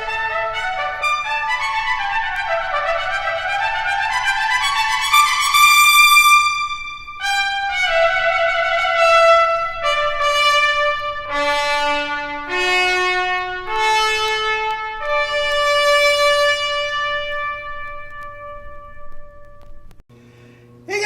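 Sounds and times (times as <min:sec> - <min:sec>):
solo trumpet long notes: 0:00.0 - 0:20.0.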